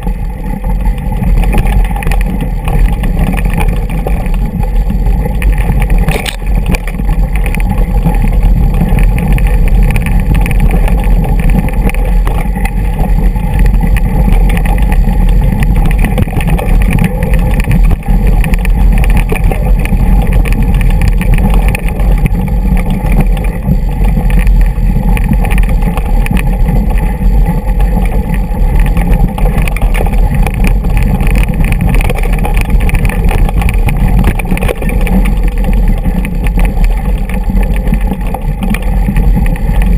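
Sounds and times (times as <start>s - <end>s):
bike rattling over rocky track: 0.0s - 39.9s
deep low rumble: 0.0s - 39.9s.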